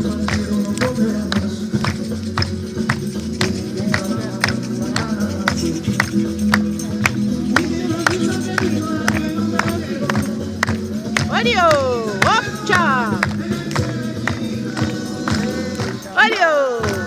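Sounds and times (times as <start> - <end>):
music with steady percussive beat: 0.0 - 17.0.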